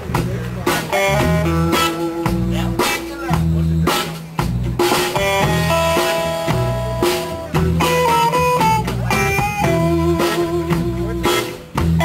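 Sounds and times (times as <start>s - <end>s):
electric guitar melody: 0.0s - 12.0s
repeating bass line: 0.0s - 12.0s.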